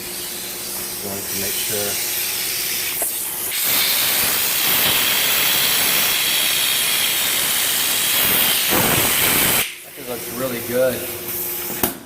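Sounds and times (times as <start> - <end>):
compressed air hissing: 0.3 - 10.5.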